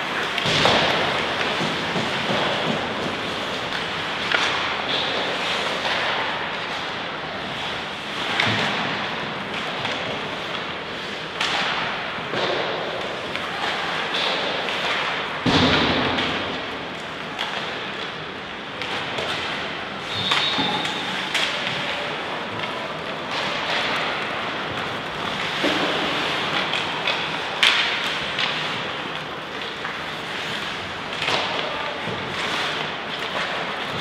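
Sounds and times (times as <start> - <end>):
echoing hall background noise: 0.0 - 34.0.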